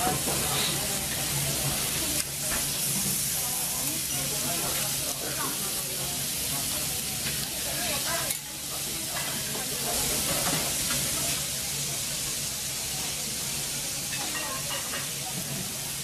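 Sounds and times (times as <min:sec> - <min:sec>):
beef sizzling on griddle: 0:00.0 - 0:16.0.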